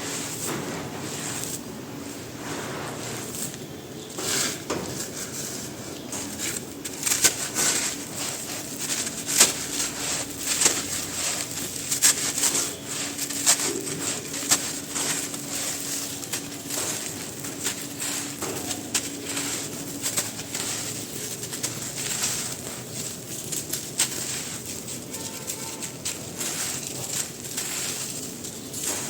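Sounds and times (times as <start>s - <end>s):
dry sand crunching: 0.0s - 29.0s.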